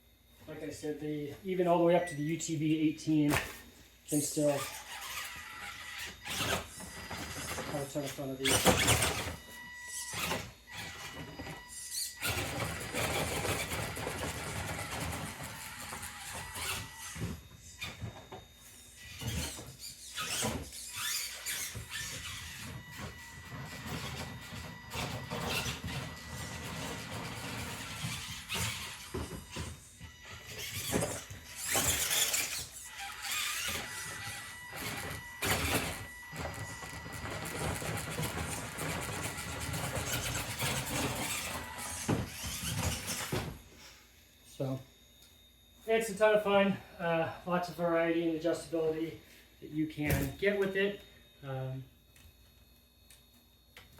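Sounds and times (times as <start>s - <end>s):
small electric motor whining: 1.0s - 46.7s.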